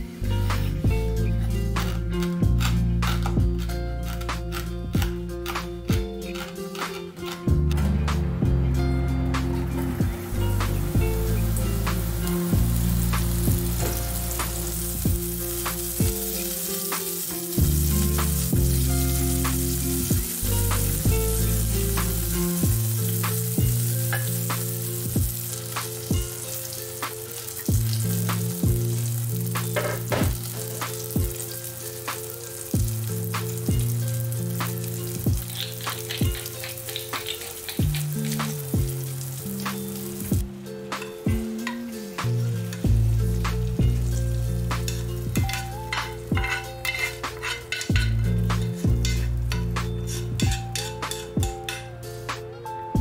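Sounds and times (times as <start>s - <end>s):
food sizzling in oil: 0.0s - 7.5s, 9.3s - 52.4s
soft background music with beat: 0.0s - 53.0s.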